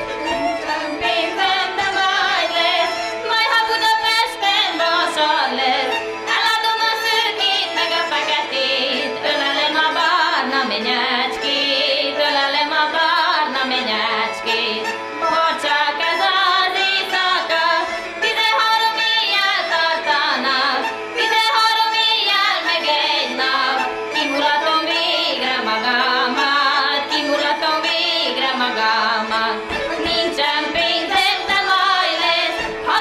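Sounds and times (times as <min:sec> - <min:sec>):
bagpipe drone and melody: 0:00.0 - 0:33.0
women singing: 0:00.0 - 0:33.0.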